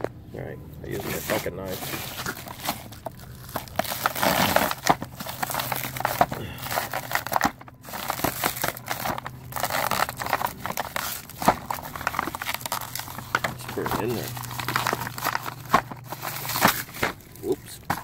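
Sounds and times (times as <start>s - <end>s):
plastic bag crinkling: 0.9s - 18.0s.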